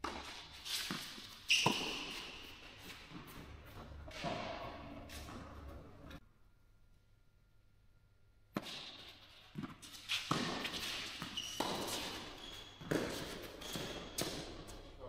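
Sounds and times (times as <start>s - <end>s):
rackets hitting tennis ball: 0.0s - 6.2s, 8.5s - 14.9s
tennis ball bouncing: 0.0s - 6.2s, 8.5s - 14.8s.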